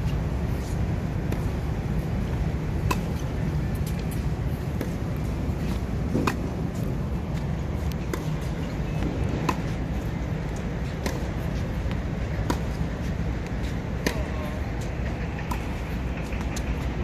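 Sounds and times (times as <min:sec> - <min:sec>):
tennis ball bouncing on hard court: 0:00.0 - 0:01.6, 0:02.2 - 0:16.9
racquets hitting tennis ball: 0:00.0 - 0:17.0
steady low rumble: 0:00.0 - 0:17.0.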